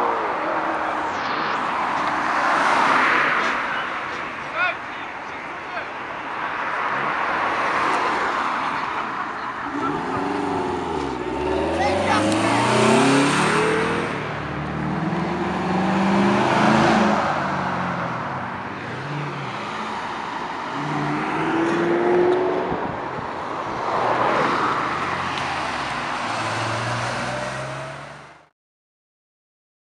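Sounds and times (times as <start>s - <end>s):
cars accelerating past: 0.0s - 3.8s, 6.7s - 28.4s
tyre and road noise: 0.0s - 28.5s.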